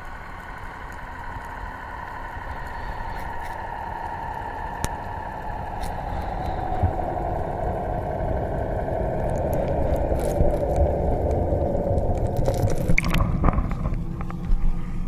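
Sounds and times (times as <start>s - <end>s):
water splashing: 0.0s - 14.6s
muffled underwater rushing: 0.0s - 15.0s.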